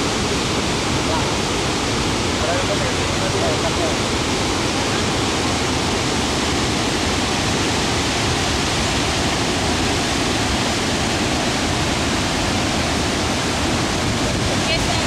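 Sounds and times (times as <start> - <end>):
waterfall rushing over boulders: 0.0 - 15.0.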